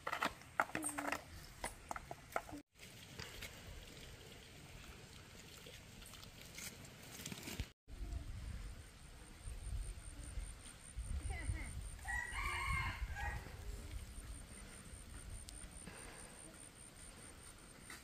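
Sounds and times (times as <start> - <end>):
faint outdoor background noise: 0.0 - 18.0.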